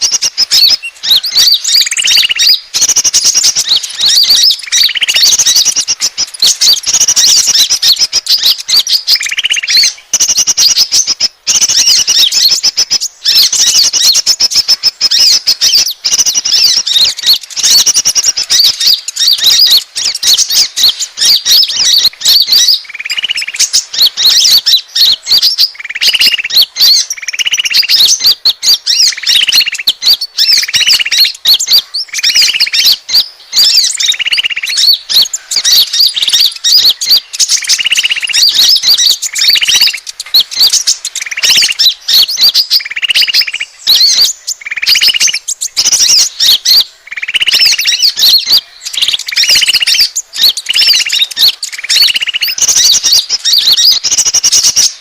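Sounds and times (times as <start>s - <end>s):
rapid high bird chirps: 0.0s - 55.0s.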